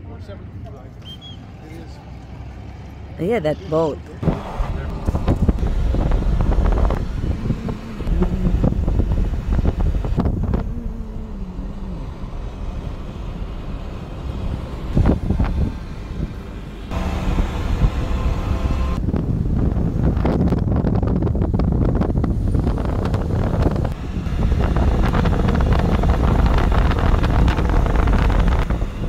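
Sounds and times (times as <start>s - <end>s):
car engine and tyres rumbling: 0.0s - 29.0s
wind buffeting microphone: 4.2s - 29.0s.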